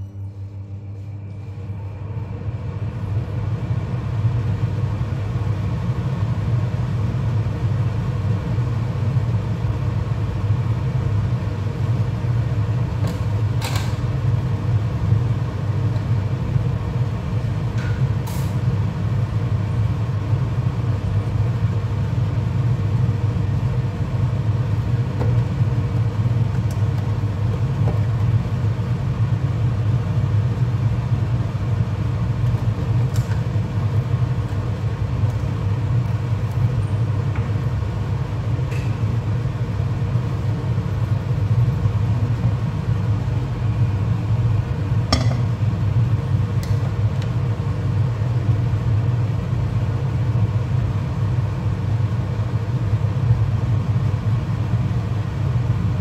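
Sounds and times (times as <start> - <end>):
gas hob rumbling: 0.0 - 56.0.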